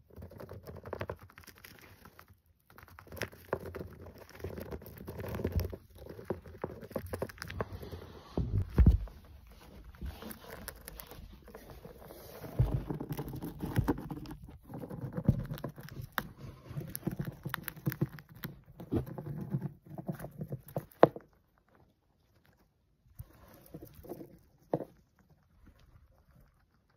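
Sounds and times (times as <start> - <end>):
hamster gnawing a peanut shell: 0.0 - 26.9.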